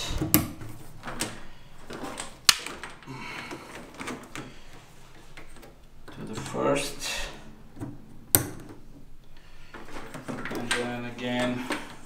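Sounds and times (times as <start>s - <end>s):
cable rustling: 0.0s - 12.0s.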